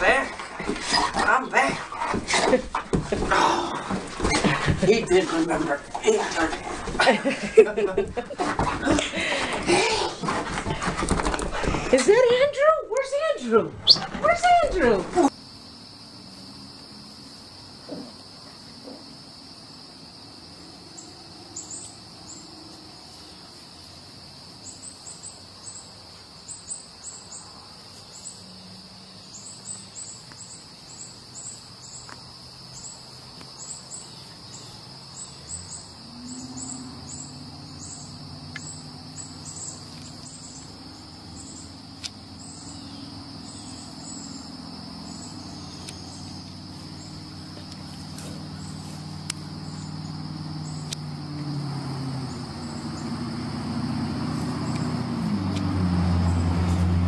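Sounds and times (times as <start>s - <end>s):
high insect drone: 0.0s - 10.8s, 11.4s - 57.0s.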